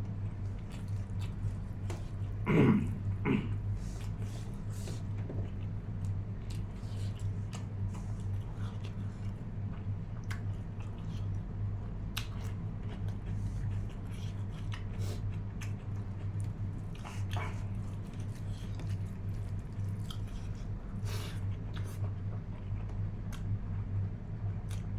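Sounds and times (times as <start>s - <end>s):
steady low hum: 0.0s - 24.9s
person chewing: 0.4s - 11.4s, 12.1s - 23.4s.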